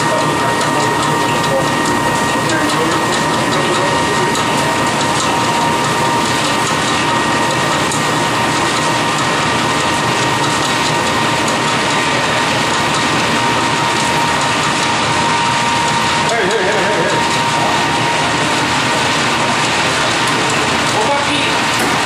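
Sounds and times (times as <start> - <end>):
pellet mill whining: 0.0 - 22.0.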